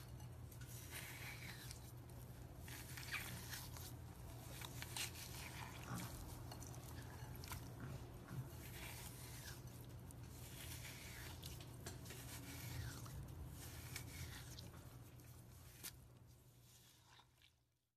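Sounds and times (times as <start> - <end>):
hands squishing slime: 0.0 - 17.8.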